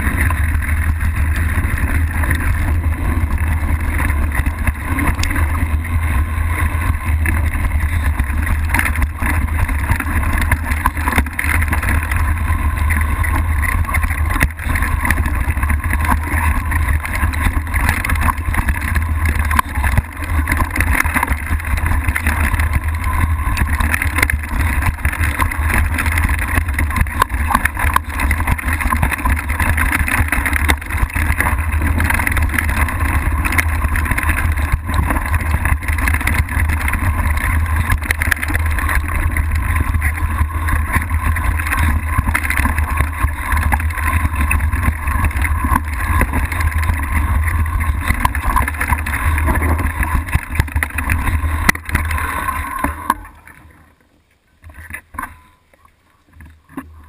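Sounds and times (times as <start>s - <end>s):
bike knocking on rocks: 0.0s - 53.8s
wind and tyres rumbling: 0.0s - 57.0s.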